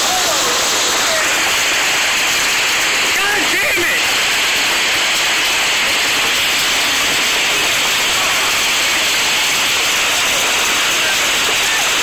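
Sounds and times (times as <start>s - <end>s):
hail and heavy rain pelting: 0.0s - 12.0s.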